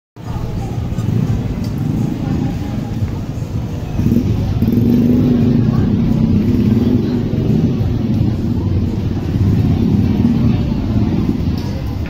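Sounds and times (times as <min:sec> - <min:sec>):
street traffic rumble: 0:00.2 - 0:12.0
vehicle engine droning nearby: 0:00.2 - 0:12.0.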